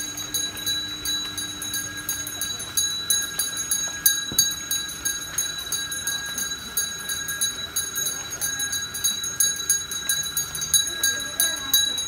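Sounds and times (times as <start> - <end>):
small metal bells jangling: 0.0 - 12.0.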